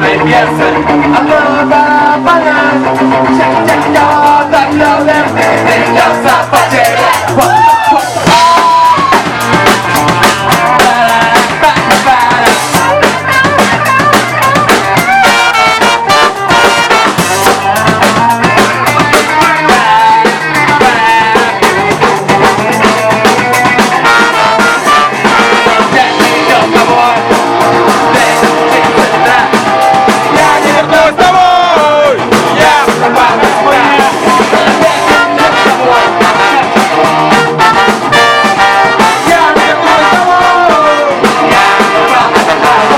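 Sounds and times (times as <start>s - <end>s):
band playing a song: 0.0s - 42.9s
person singing: 0.0s - 42.9s
steady drum beat: 0.0s - 42.9s.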